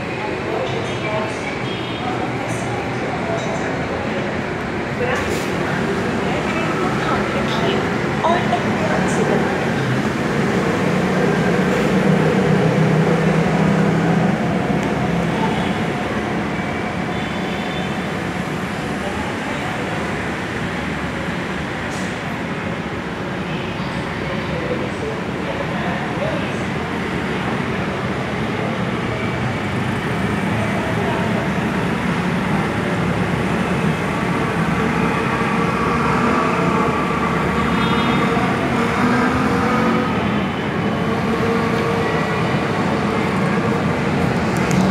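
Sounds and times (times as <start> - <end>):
city street traffic: 0.0 - 44.9.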